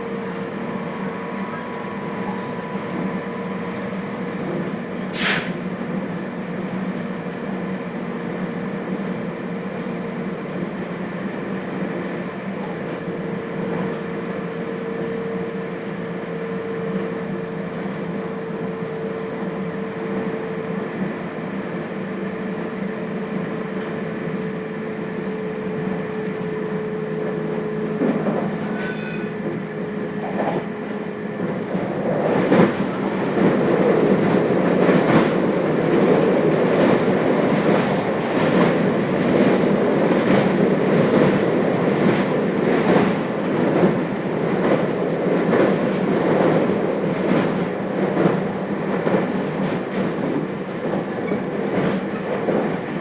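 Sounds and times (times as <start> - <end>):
wheel and rail rumble: 0.0 - 53.0.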